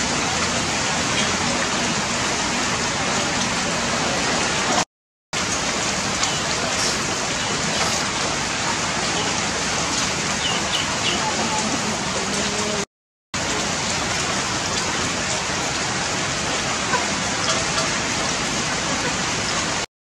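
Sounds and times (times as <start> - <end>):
steady rain: 0.0 - 19.9.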